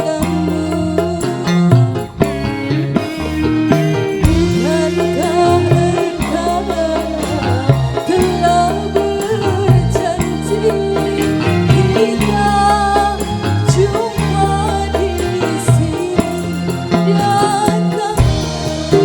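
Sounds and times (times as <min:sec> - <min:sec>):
live band through loudspeakers: 0:00.0 - 0:19.0
person singing wavering melody: 0:03.7 - 0:19.0.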